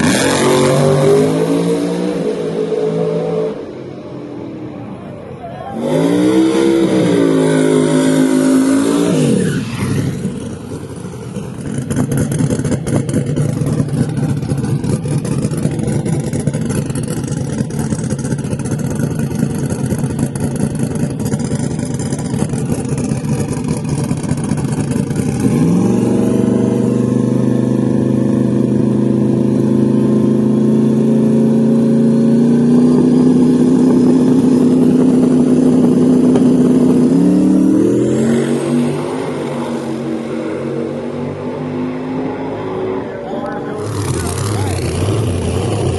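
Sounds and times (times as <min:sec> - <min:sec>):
loud drag car engines: 0:00.0 - 0:45.9.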